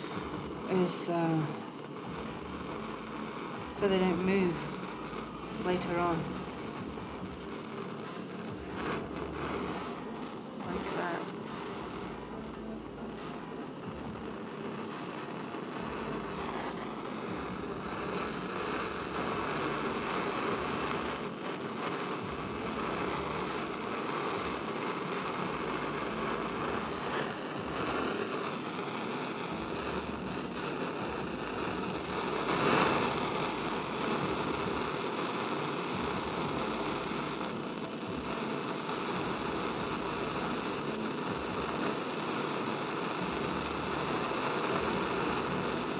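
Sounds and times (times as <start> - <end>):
gas torch burning: 0.0 - 45.9.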